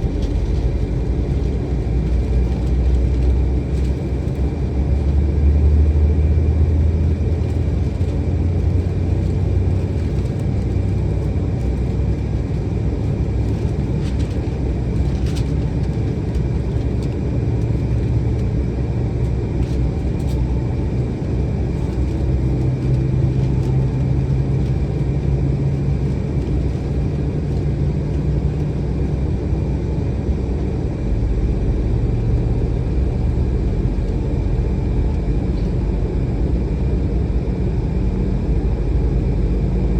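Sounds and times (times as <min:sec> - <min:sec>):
airliner cabin low rumble: 0:00.0 - 0:39.9.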